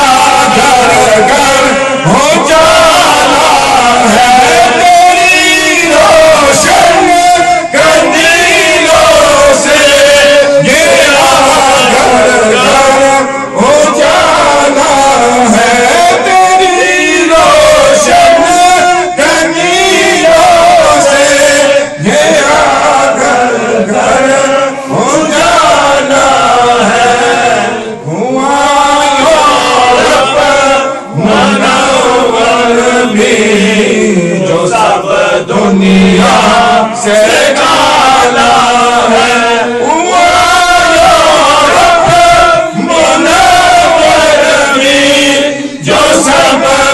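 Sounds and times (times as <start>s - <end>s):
men chanting together: 0.0s - 46.9s.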